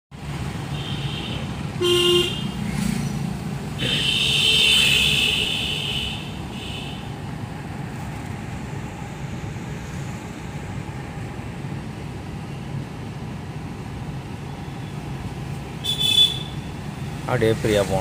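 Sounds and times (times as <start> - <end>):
car engine and tyre hum: 0.1 - 18.0.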